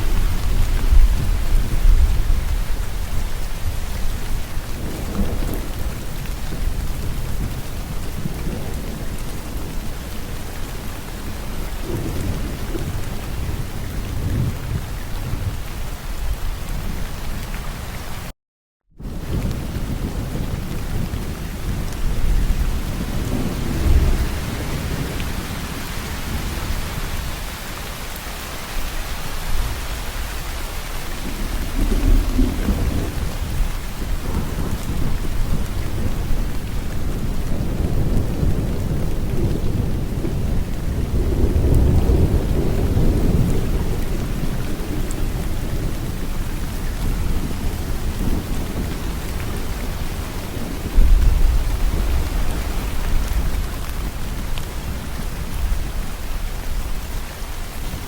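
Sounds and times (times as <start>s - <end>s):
thunder rumbling: 0.0s - 17.4s, 19.0s - 58.0s
heavy rain hissing: 0.0s - 18.3s, 19.0s - 58.0s.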